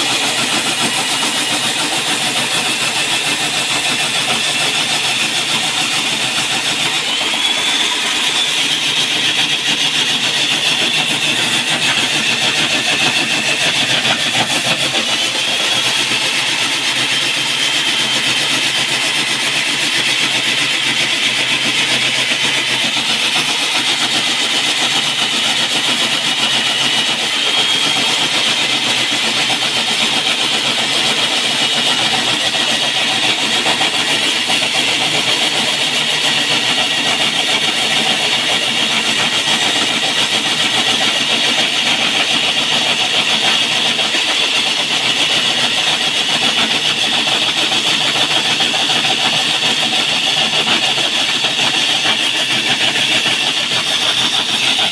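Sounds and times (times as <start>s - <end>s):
core drill grinding concrete: 0.0s - 54.9s.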